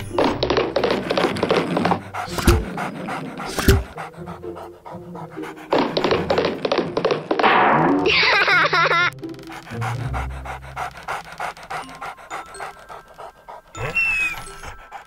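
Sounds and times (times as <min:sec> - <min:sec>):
cartoon puppy panting: 0:00.0 - 0:07.4, 0:08.1 - 0:15.0.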